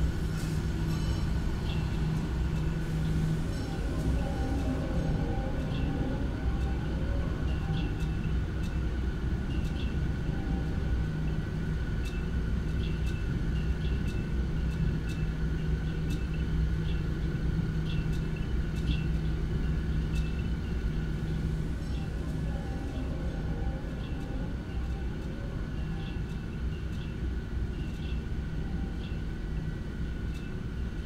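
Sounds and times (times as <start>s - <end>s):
machinery rumbling and humming: 0.0s - 31.0s.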